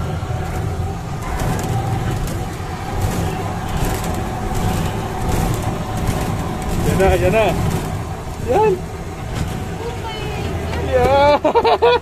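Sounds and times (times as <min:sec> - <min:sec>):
clattering and rattling: 0:00.0 - 0:11.2
low engine hum: 0:00.0 - 0:12.0.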